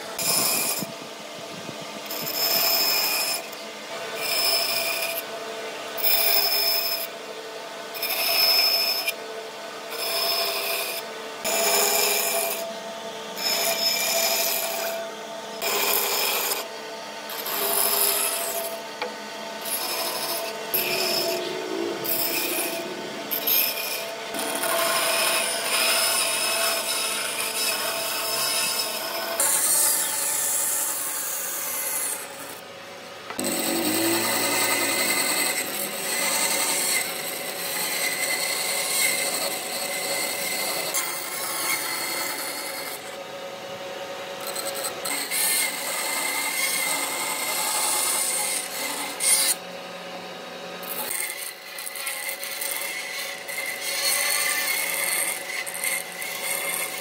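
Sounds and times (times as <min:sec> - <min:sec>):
saw blade rasping through wood: 0:00.0 - 0:05.3, 0:07.9 - 0:09.2, 0:09.9 - 0:16.7, 0:17.3 - 0:32.6, 0:33.4 - 0:43.2, 0:44.4 - 0:49.7, 0:50.8 - 0:57.0
bandsaw motor hum: 0:00.0 - 0:57.0.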